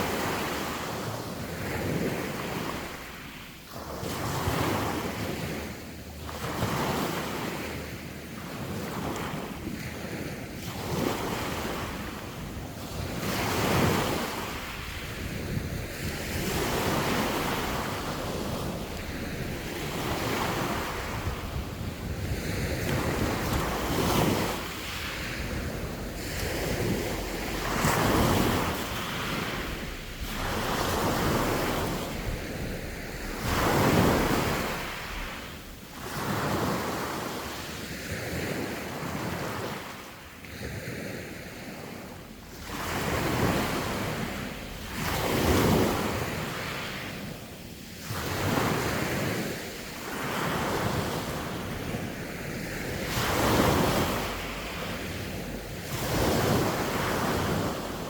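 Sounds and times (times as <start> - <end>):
sea waves breaking: 0.0 - 58.0
wind on microphone: 0.0 - 58.0.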